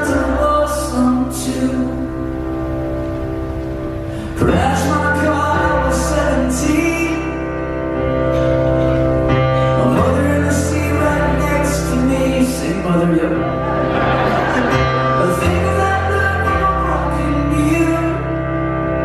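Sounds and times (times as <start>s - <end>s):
person singing lead vocal: 0.0s - 2.6s, 4.2s - 19.0s
live pop-rock band: 0.0s - 19.0s.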